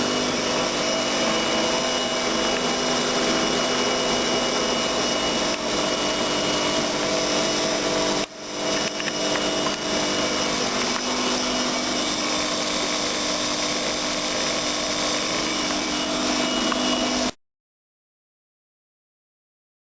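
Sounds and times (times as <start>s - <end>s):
washing machine running: 0.0s - 17.4s.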